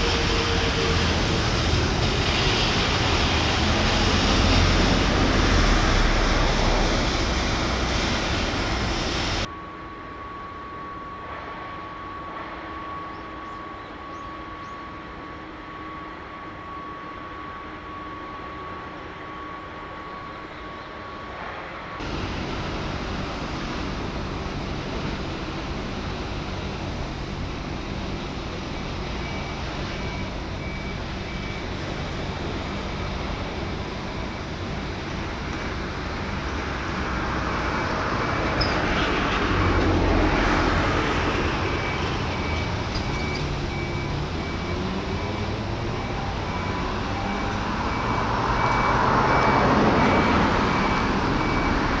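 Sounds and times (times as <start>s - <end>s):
road traffic: 0.0s - 52.0s.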